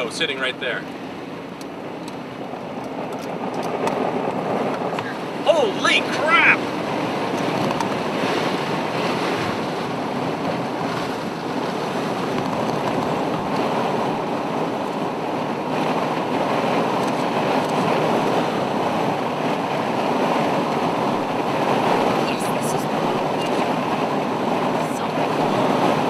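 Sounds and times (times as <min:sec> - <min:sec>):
wind and road noise from car: 0:00.0 - 0:26.0.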